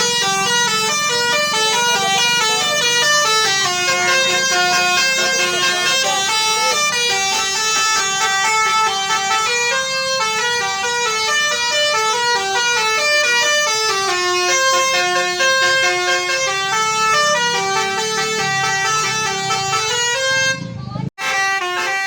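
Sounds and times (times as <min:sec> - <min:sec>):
multi-tone bus horn melody: 0:00.0 - 0:22.0.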